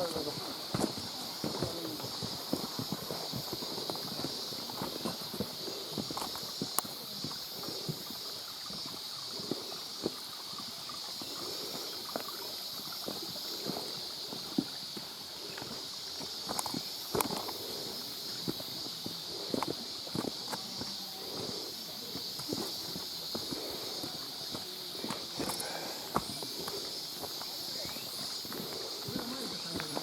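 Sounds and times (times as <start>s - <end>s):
footsteps on wet rocky trail: 0.0s - 30.0s
steady high-pitched hiss: 0.0s - 30.0s.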